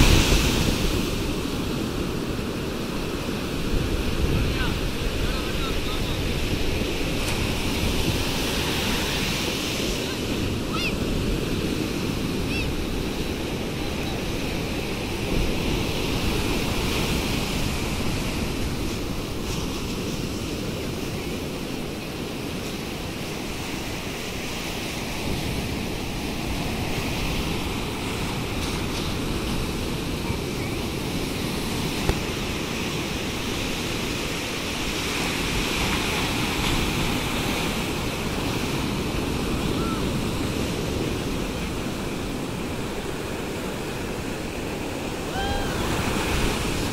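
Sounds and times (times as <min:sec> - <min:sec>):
surf washing on sandy shore: 0:00.0 - 0:46.9.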